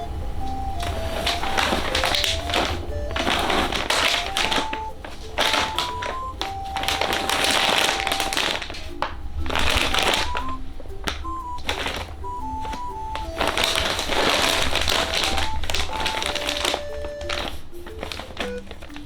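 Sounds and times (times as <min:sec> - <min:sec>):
light rhythmic percussion: 0:00.0 - 0:19.0
simple melody: 0:00.0 - 0:19.0.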